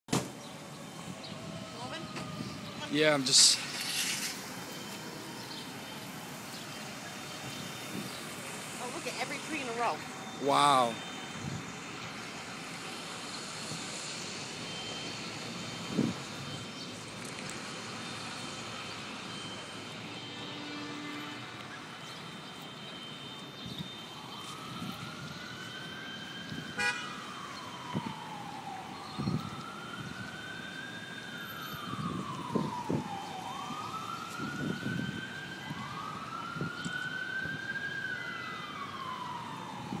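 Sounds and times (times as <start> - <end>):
emergency vehicle siren wailing: 0.2 - 40.0.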